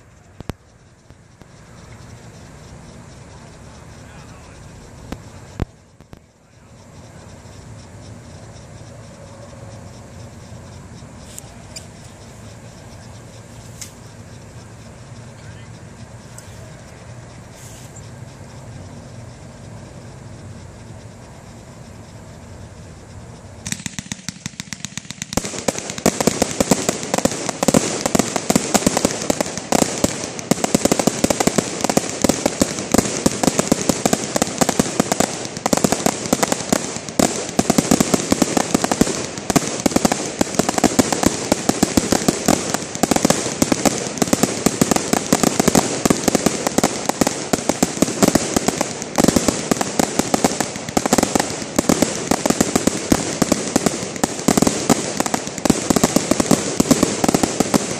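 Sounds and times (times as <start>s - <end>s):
firework bang: 0.0s - 19.6s, 22.9s - 57.9s
rapid firework pops: 0.0s - 57.9s.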